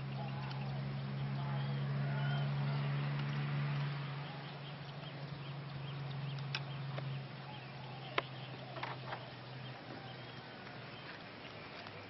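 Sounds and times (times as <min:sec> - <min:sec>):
faint bird chirps: 0:00.0 - 0:12.0
steady low hum: 0:00.0 - 0:12.0.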